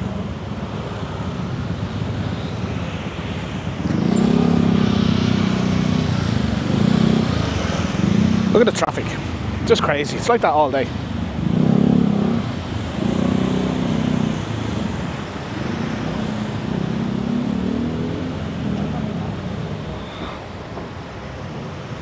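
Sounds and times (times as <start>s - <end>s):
street hum: 0.0s - 22.0s
car engines droning past: 2.0s - 21.1s.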